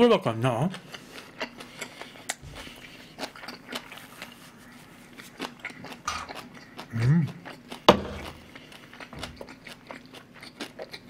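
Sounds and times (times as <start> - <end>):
mouth chewing food: 0.3 - 11.0.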